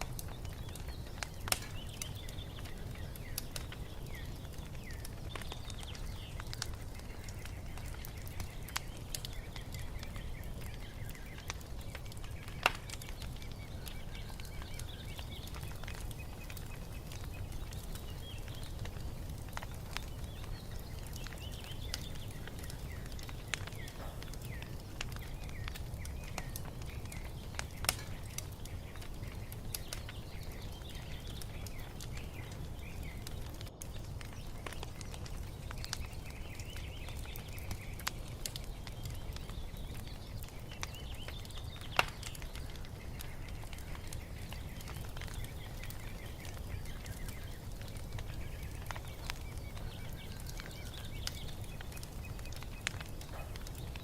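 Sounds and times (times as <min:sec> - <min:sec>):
low fire rumble: 0:00.0 - 0:54.0
songbirds chirping: 0:00.0 - 0:54.0
wood fire crackling and popping: 0:00.0 - 0:54.0.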